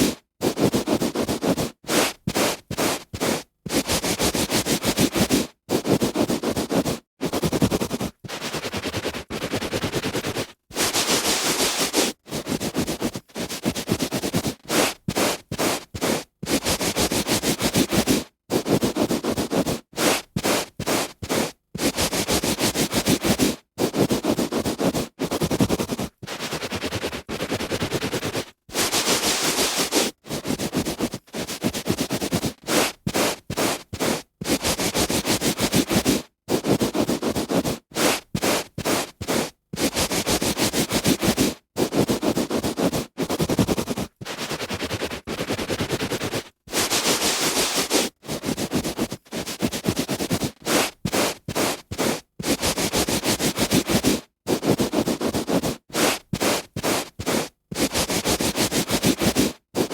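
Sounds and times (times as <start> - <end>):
hand rubbing on carpet: 0.0 - 59.9.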